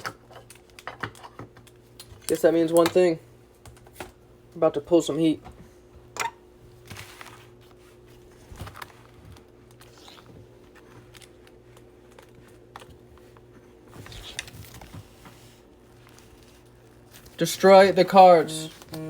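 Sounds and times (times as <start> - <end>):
steady low hum: 1.6 - 19.0.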